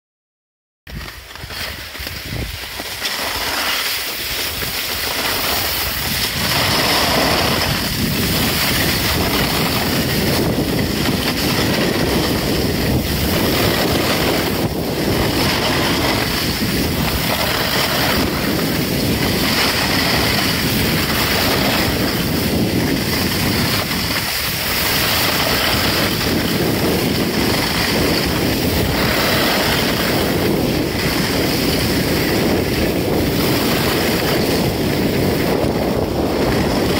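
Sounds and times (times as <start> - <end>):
skis scraping over snow: 0.9 - 36.9
wind rushing over microphone: 0.9 - 36.9.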